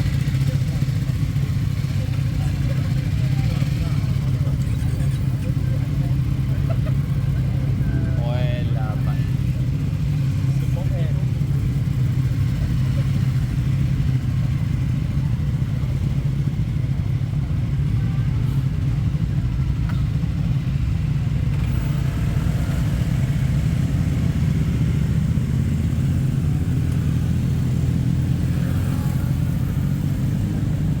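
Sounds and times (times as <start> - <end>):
motorcycle engines idling: 0.0 - 31.0.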